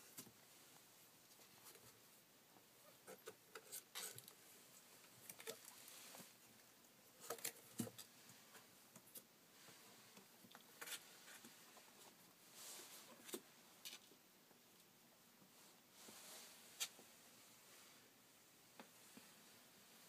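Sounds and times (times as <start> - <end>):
soft clicks and rustles: 0.0 - 18.1.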